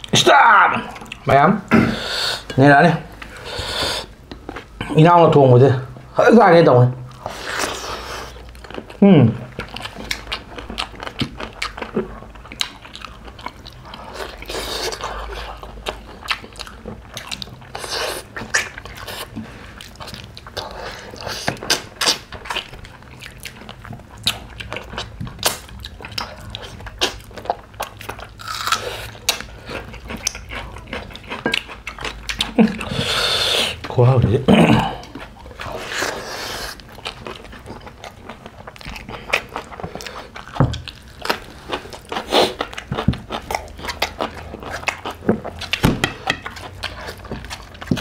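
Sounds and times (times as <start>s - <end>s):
people chewing food: 0.0s - 5.0s, 7.0s - 48.0s.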